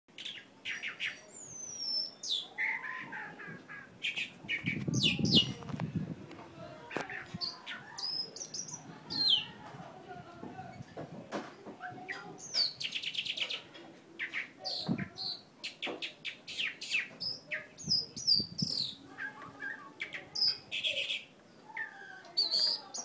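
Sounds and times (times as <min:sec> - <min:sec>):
birds chirping and calling: 0:00.1 - 0:09.8, 0:10.6 - 0:23.0.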